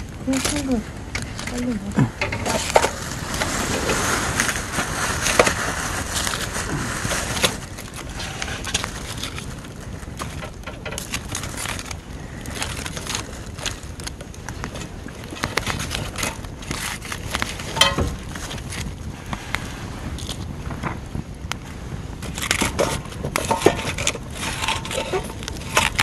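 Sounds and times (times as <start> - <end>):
campfire wood crackling: 0.0 - 26.0.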